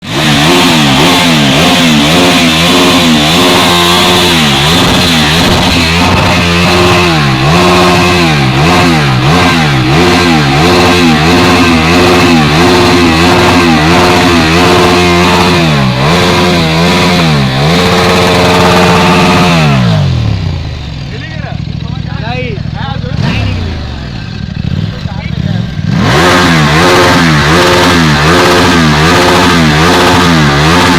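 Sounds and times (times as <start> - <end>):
motorcycle engine revving hard: 0.0 - 30.9.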